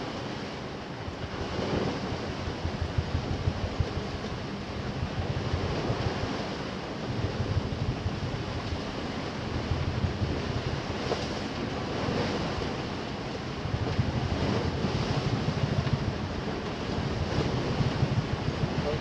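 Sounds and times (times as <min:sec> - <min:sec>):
waves breaking along hull: 0:00.0 - 0:19.0
wind buffeting microphone: 0:00.0 - 0:19.0.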